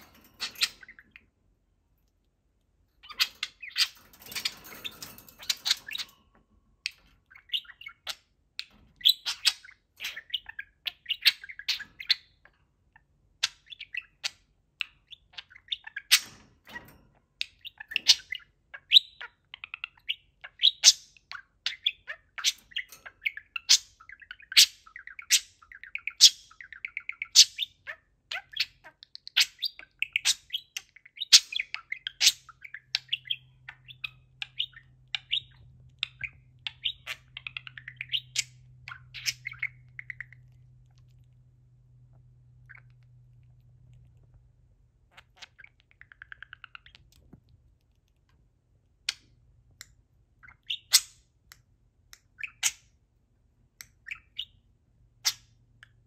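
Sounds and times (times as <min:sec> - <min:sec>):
budgerigar chirping and chattering: 0:00.0 - 0:01.3, 0:03.0 - 0:06.2, 0:06.8 - 0:16.4, 0:17.4 - 0:41.0, 0:42.1 - 0:43.2, 0:45.0 - 0:47.3, 0:49.0 - 0:53.0, 0:53.8 - 0:56.0.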